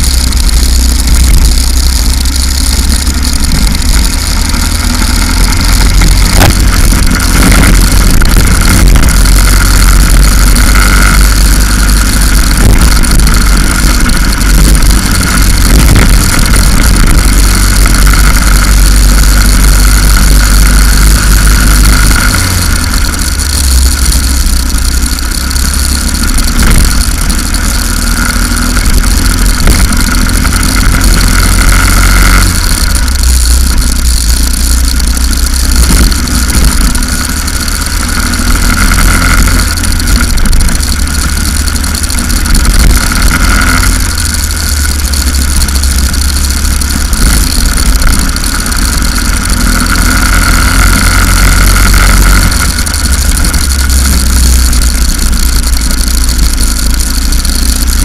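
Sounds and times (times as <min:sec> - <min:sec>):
go-kart engine running: 0:00.0 - 0:58.0
heavy low rumble: 0:00.0 - 0:58.0.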